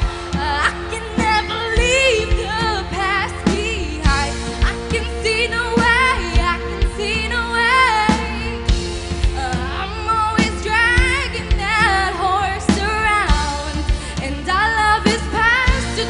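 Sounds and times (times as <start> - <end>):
drum beats: 0.0 - 16.0
live band accompaniment: 0.0 - 16.0
woman singing with vibrato: 0.0 - 16.0.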